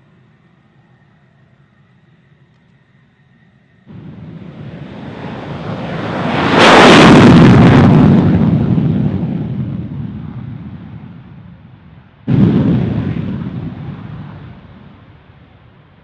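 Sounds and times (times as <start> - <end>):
jet engine afterburner roar: 0.0 - 16.0.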